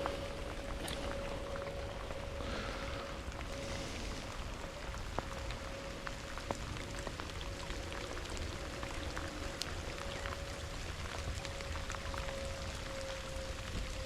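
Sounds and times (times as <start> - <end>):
rain falling: 0.0 - 14.0
raindrops tapping close by: 0.0 - 14.0.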